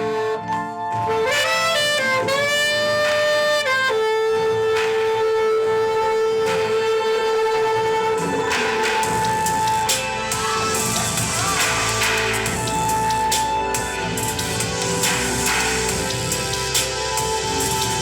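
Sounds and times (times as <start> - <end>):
saxophone melody: 0.0 - 18.0
soft beats and pads: 0.0 - 18.0.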